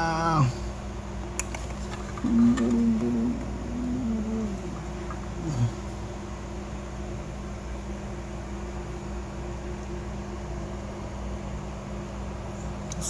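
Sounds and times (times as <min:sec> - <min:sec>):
steady low hum with tones: 0:00.0 - 0:13.0.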